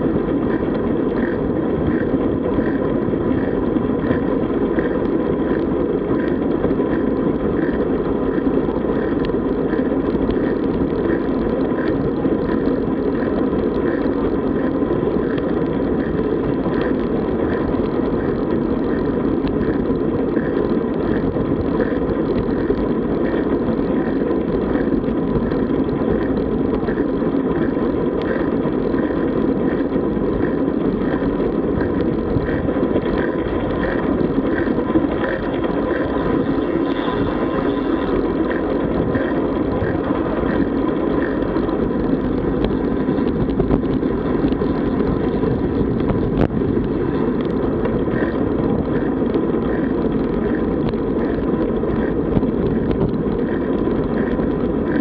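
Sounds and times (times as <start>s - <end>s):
faint regular ticking: 0.0s - 55.0s
road noise from bicycle: 0.0s - 55.0s.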